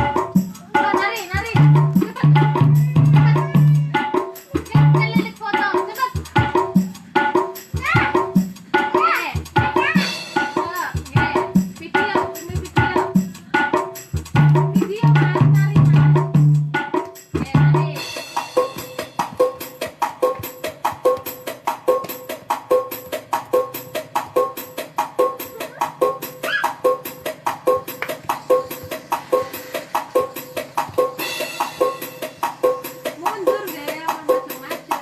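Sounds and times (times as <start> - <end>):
electronic drum rhythm with ticks: 0.0 - 35.0.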